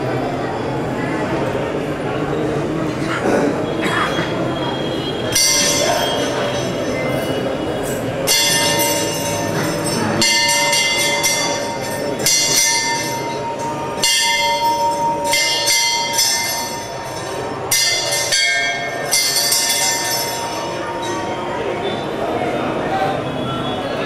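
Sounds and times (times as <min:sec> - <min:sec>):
large brass bell ringing: 0:04.3 - 0:23.8.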